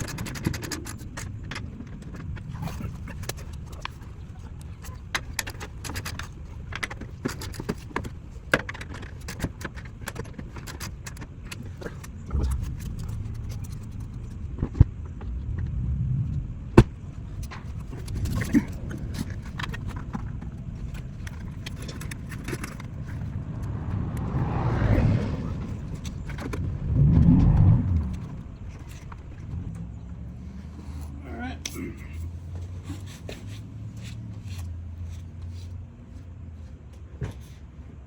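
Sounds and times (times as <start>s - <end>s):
steady low rumble: 0.0s - 32.8s.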